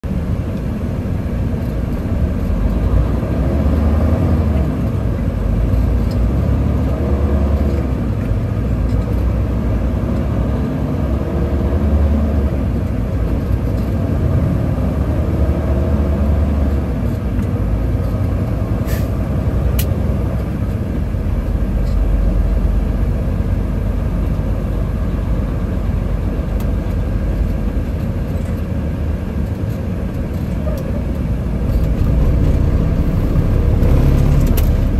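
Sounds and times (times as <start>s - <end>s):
truck engine and road rumble: 0.0s - 34.9s.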